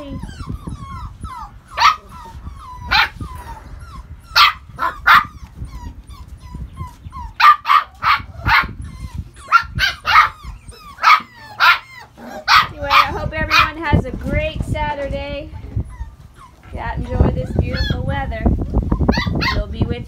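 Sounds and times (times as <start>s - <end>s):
puppies yipping: 0.0s - 13.9s, 15.7s - 18.2s, 18.8s - 19.7s.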